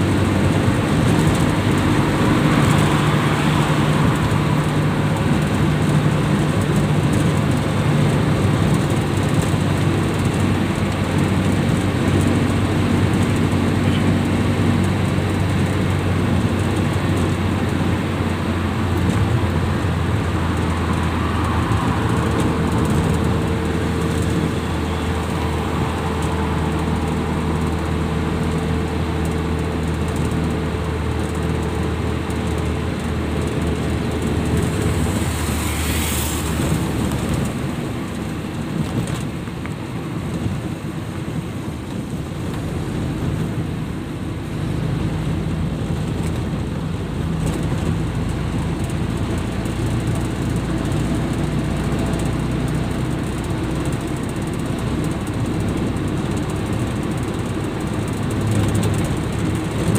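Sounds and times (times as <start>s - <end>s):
vehicle engine drone: 0.0s - 59.9s.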